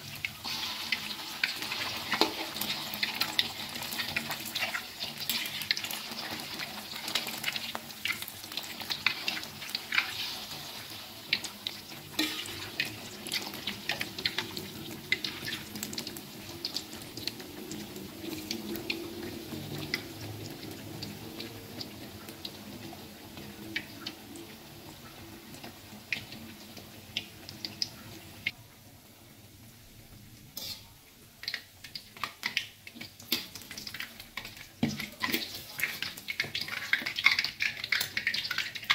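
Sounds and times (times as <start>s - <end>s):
oil crackling and popping: 0.0s - 28.6s, 30.4s - 38.9s.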